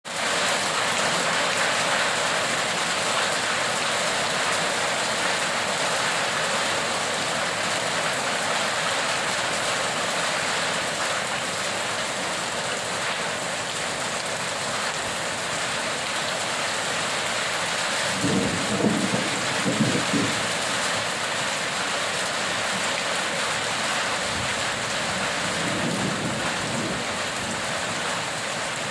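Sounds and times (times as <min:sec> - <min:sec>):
heavy rain falling: 0:00.1 - 0:28.9.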